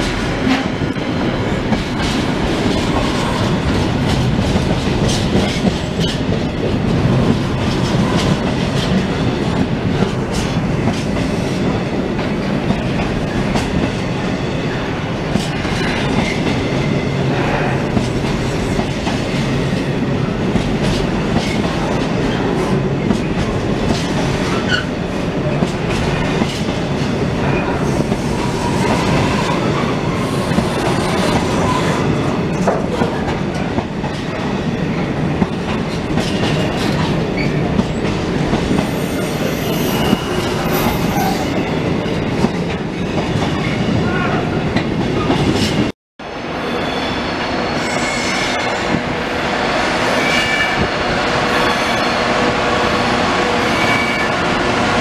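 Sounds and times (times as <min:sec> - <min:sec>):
train wheels clattering over rails: 0:00.0 - 0:14.5, 0:15.2 - 0:39.0, 0:40.0 - 0:45.9.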